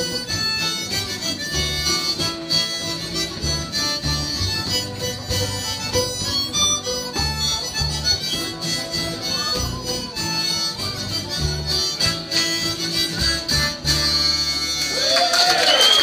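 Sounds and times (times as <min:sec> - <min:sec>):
plucked double bass: 0:00.0 - 0:15.0
lead melody instrument: 0:00.0 - 0:15.4
guitar: 0:00.0 - 0:16.0.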